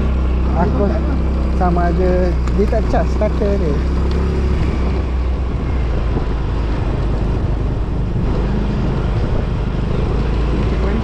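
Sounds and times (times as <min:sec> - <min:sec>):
scooter engine running: 0:00.0 - 0:11.0
wind and road noise: 0:00.0 - 0:11.0.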